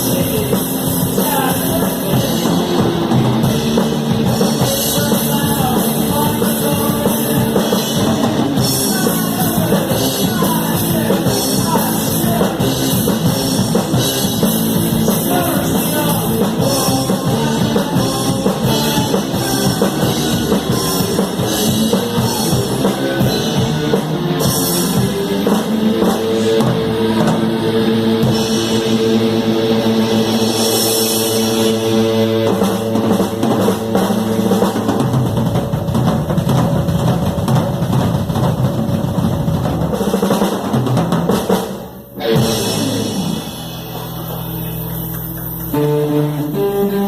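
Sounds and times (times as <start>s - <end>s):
drums and cymbals: 0.0s - 47.0s
rock band playing live: 0.0s - 47.0s.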